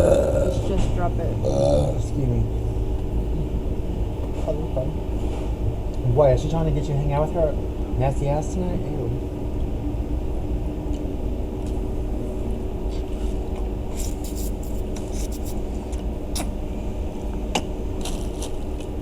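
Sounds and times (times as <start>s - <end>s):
vehicle engine running: 0.0s - 16.2s.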